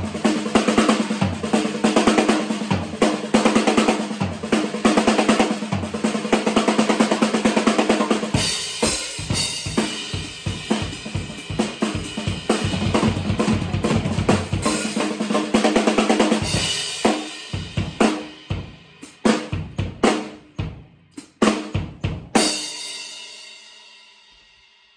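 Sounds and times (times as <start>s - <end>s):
drum kit playing: 0.0s - 24.5s.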